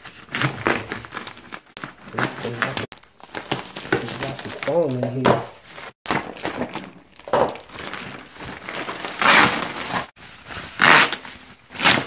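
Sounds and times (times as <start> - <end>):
plastic and foam crinkling: 0.0 - 12.0.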